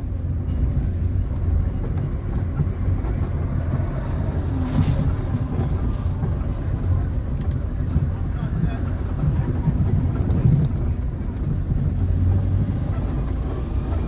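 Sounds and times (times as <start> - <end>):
car driving on road: 0.0 - 14.0.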